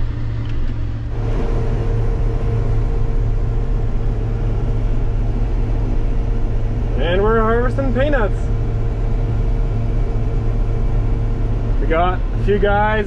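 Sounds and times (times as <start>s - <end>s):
steady whine: 0.0s - 13.0s
tractor engine humming: 0.0s - 13.0s.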